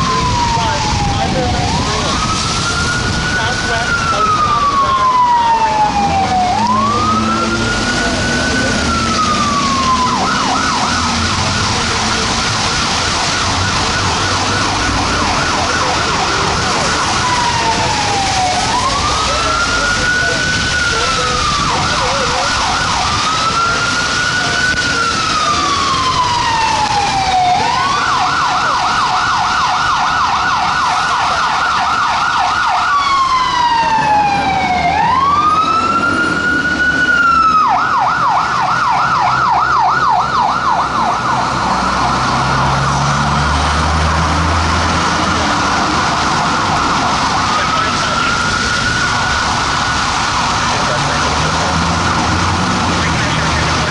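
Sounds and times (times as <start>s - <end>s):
fire truck siren wail and yelp: 0.0s - 53.9s.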